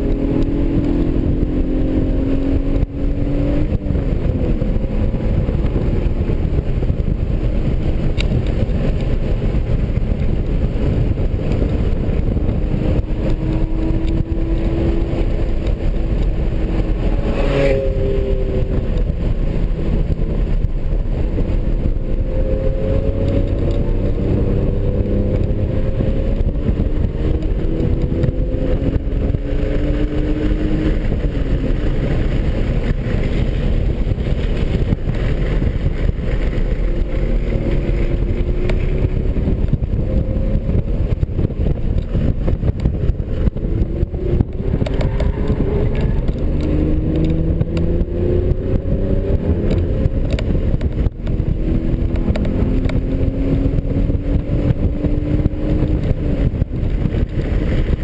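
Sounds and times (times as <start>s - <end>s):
car engine revving: 0.0s - 58.0s
wind and road rumble: 0.0s - 58.0s.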